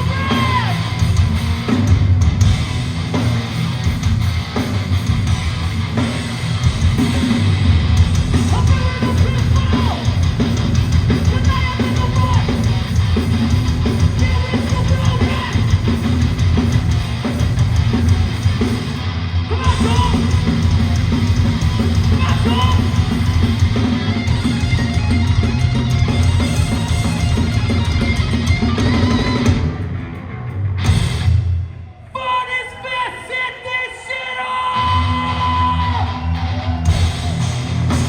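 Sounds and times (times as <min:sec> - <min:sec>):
hardcore band playing live: 0:00.0 - 0:38.0.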